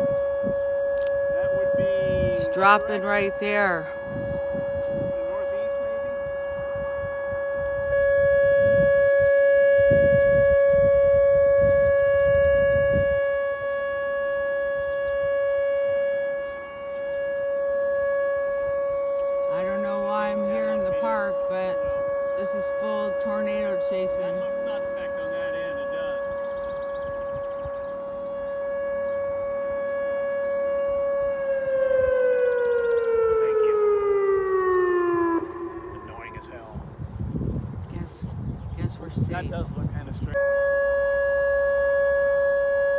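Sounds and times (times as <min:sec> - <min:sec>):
wind rumbling on microphone: 0:00.0 - 0:40.8
tornado warning siren: 0:00.0 - 0:42.9.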